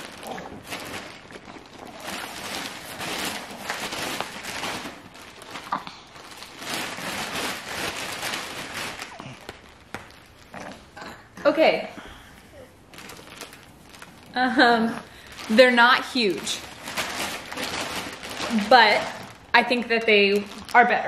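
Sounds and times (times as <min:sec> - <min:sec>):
towel and packaging rustling: 0:00.0 - 0:10.9, 0:12.0 - 0:21.0.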